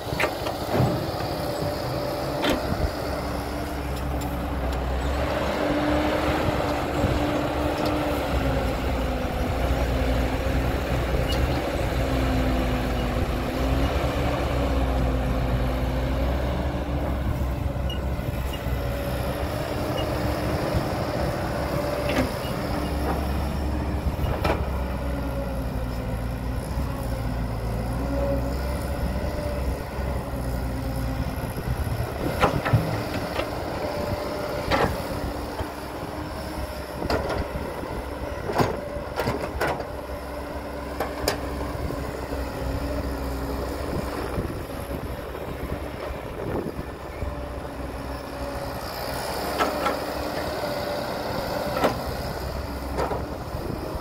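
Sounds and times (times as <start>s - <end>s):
heavy machinery diesel engine: 0.0s - 54.0s.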